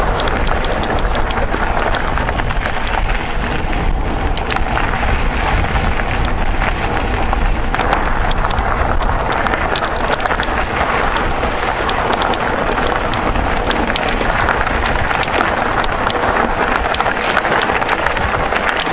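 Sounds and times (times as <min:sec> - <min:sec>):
bike clicks and rattles: 0:00.0 - 0:18.9
bike tyre noise on trail: 0:00.0 - 0:18.9
wind rumble on microphone: 0:00.0 - 0:18.9.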